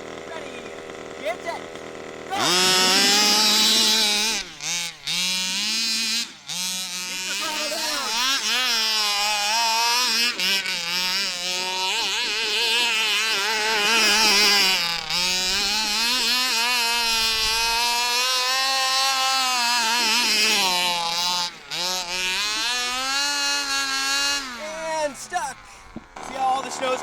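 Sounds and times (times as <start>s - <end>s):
tires spinning in wet snow: 0.0s - 27.0s
two-stroke engine at high revs: 0.0s - 27.0s.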